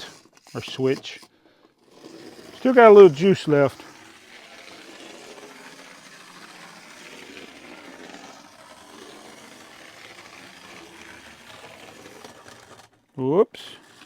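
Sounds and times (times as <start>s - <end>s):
clockwork toy train whirring: 0.0s - 14.0s.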